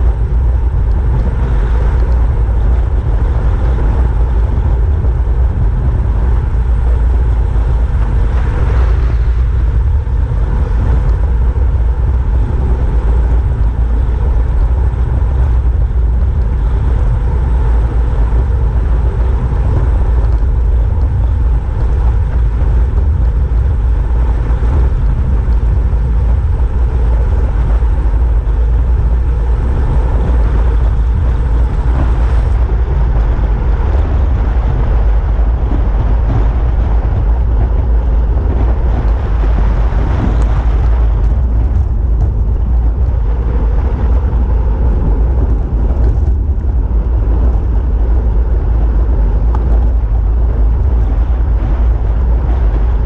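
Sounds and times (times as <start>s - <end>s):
rushing road noise: 0.0s - 53.0s
wind rumble on microphone: 0.0s - 53.0s.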